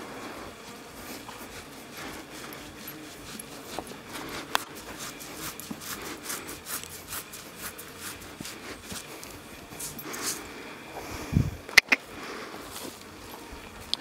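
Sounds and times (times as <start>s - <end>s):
microphone rubbing against horse hair: 0.0s - 11.7s.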